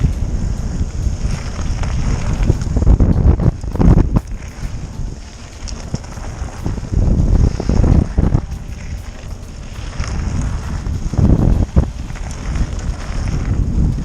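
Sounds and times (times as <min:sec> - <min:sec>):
bike clicks and rattles: 0:00.0 - 0:14.0
bike tyre rumble: 0:00.0 - 0:14.0
wind buffeting microphone: 0:00.0 - 0:14.0.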